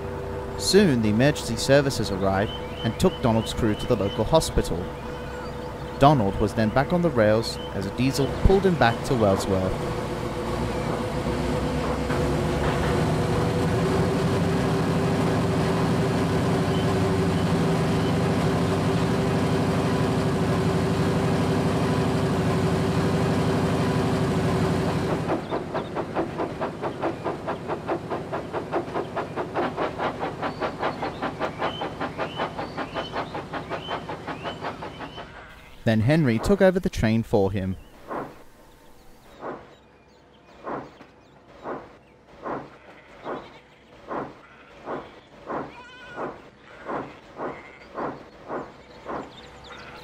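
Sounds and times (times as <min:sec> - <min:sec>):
train moving with rhythmic beat: 0:00.0 - 0:36.5, 0:40.5 - 0:43.4, 0:44.0 - 0:50.0
diesel locomotive humming: 0:00.0 - 0:39.7, 0:44.1 - 0:50.0.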